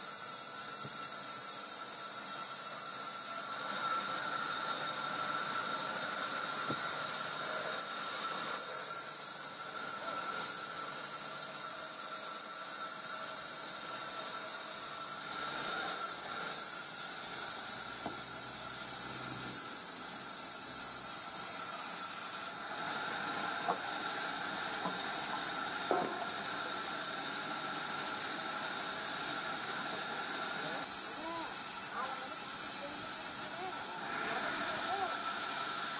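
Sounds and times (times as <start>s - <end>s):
sawmill saw whining: 0.0s - 35.9s.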